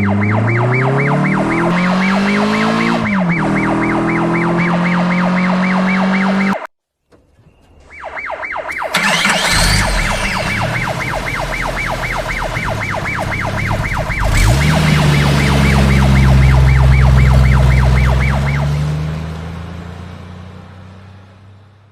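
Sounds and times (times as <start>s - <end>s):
vehicle engine revving: 0.0s - 6.6s, 8.8s - 21.2s
police siren yelping: 0.0s - 6.7s, 7.8s - 19.3s.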